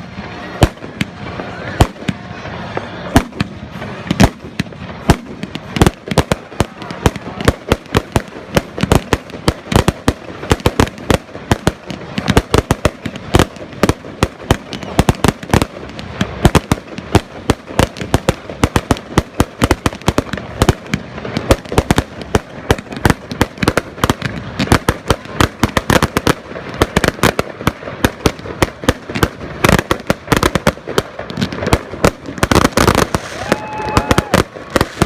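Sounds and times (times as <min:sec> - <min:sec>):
fireworks bangs and cracks: 0:00.0 - 0:35.0.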